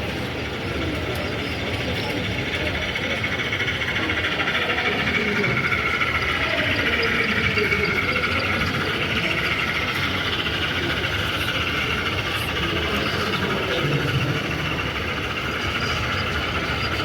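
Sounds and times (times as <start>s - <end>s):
exhibition hall noise: 0.0s - 17.0s
model trains running with rattle: 0.0s - 17.0s.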